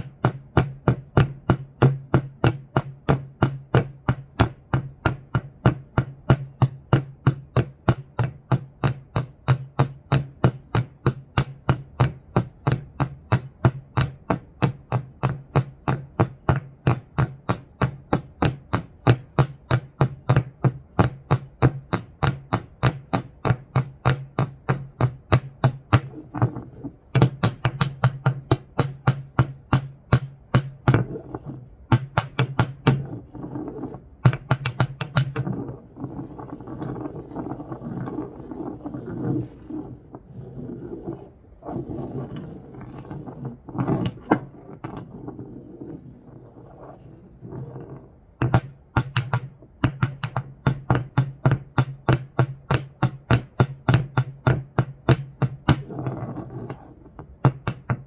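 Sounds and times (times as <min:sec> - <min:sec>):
steady low hum: 0:00.0 - 0:49.8.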